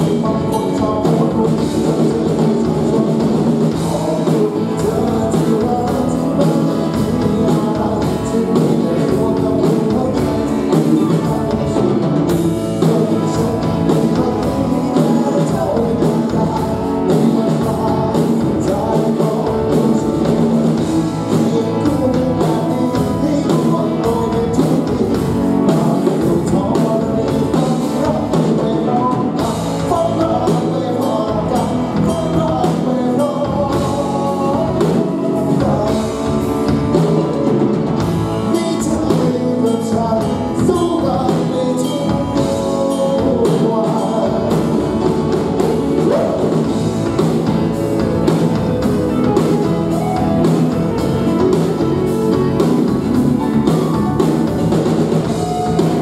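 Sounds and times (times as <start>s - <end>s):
bass guitar: 0.0s - 56.0s
drum kit: 0.0s - 56.0s
electric guitar: 0.0s - 56.0s
keyboard: 0.0s - 56.0s
man singing into microphone: 0.0s - 56.0s.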